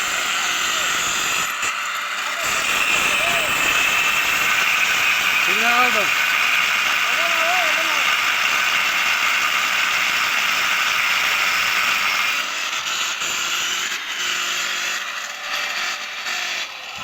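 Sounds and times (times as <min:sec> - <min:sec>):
angle grinder grinding: 0:00.0 - 0:17.0.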